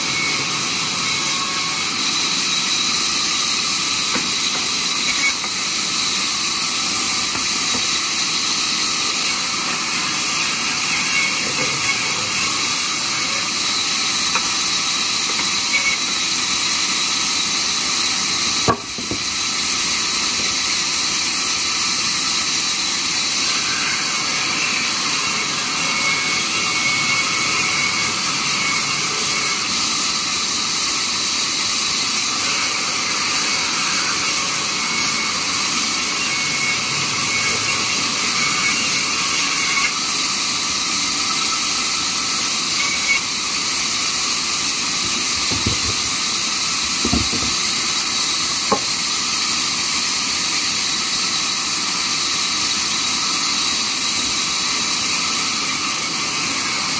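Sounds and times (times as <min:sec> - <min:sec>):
band saw cutting timber: 0:00.0 - 0:56.9.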